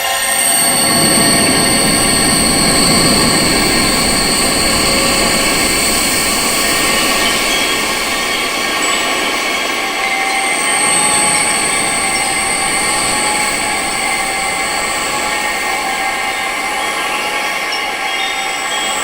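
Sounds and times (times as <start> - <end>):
sustained high-pitched tones: 0.0 - 19.0
synthesized wind noise: 0.0 - 19.0
very high whistle-like tone: 0.0 - 19.0.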